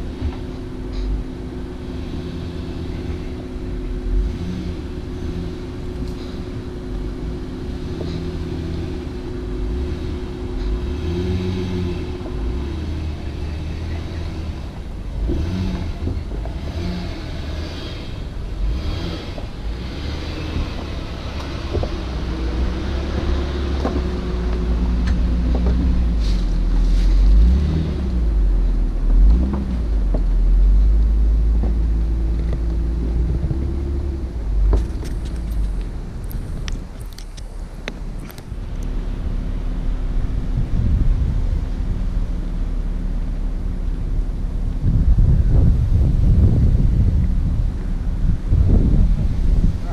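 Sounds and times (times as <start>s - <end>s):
road noise: 0.0s - 49.9s
truck engine running: 0.0s - 49.9s.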